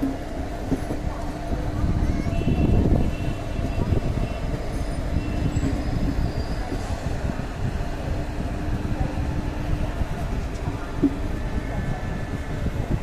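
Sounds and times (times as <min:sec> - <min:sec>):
faint steady hum: 0:00.0 - 0:13.0
train rolling on rails: 0:00.0 - 0:13.0.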